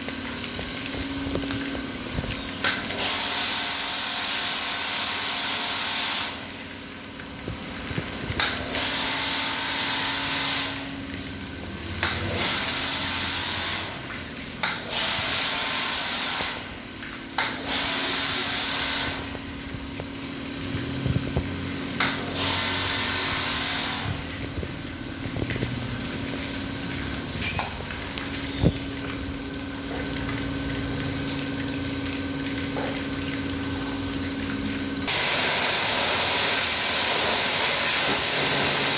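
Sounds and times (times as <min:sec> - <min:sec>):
pressure washer spraying water: 0:00.0 - 0:11.0, 0:11.6 - 0:19.8, 0:20.5 - 0:38.9
pump motor humming: 0:00.0 - 0:38.9.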